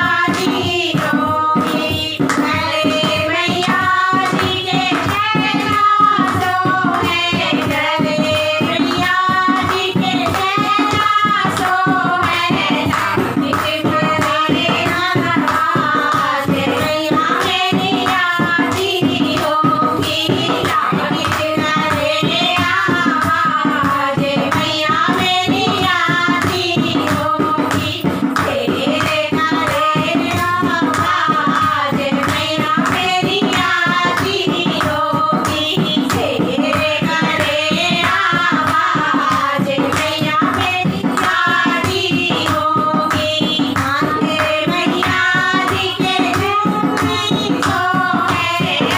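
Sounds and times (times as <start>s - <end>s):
hand claps: 0.0s - 48.9s
women singing devotional song: 0.0s - 48.9s.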